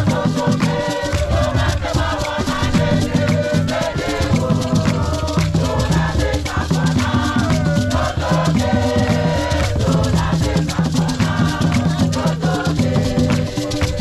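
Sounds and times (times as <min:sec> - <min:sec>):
group singing in chorus: 0:00.0 - 0:14.0
hand drums playing: 0:00.0 - 0:14.0
rattling percussion: 0:00.0 - 0:14.0.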